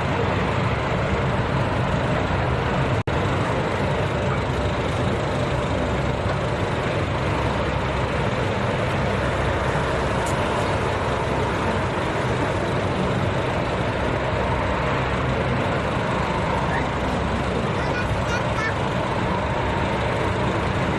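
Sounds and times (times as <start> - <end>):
steady engine noise: 0.0 - 20.9.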